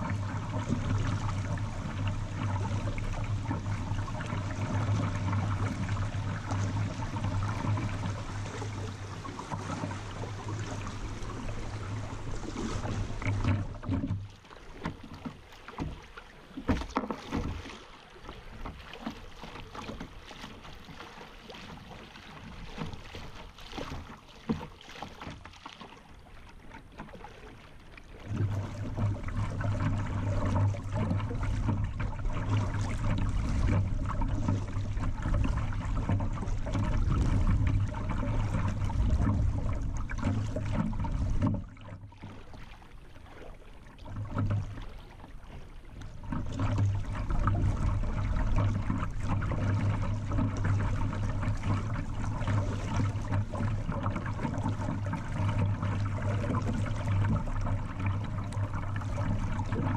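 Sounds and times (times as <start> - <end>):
rushing river water: 0.0 - 59.9
small water splashes: 0.0 - 59.9
water lapping against kayak hull: 0.0 - 59.9.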